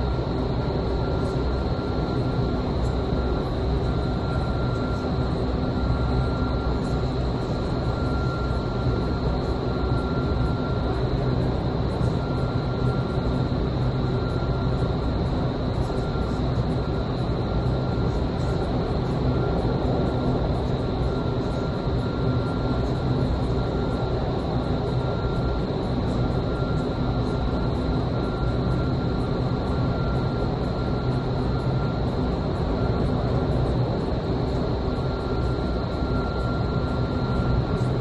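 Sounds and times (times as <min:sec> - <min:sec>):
constant high whine: 0:00.0 - 0:38.0
rushing air and fan noise: 0:00.0 - 0:38.0.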